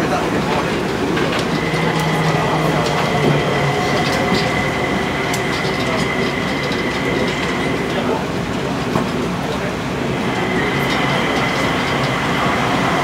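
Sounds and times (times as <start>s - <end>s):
thin steady whine: 0.1s - 13.0s.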